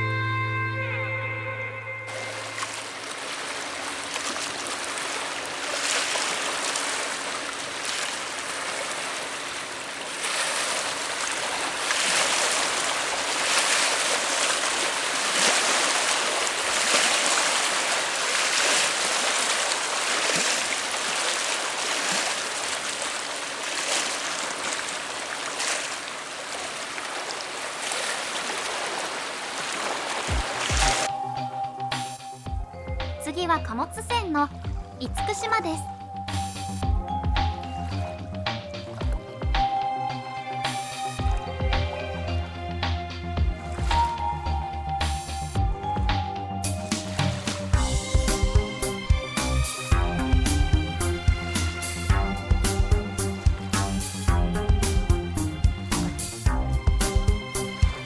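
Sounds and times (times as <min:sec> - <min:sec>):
rushing water and waves: 0:02.1 - 0:58.0.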